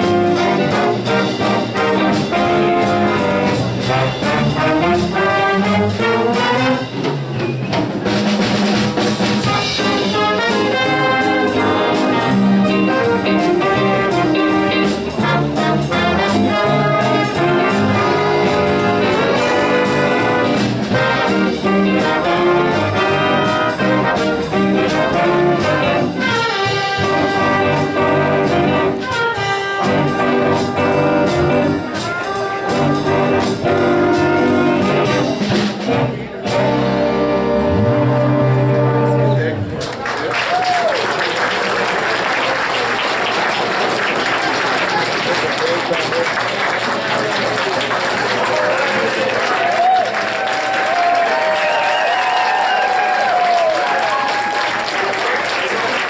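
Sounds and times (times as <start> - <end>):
jazz big band playing: 0.0 - 56.0.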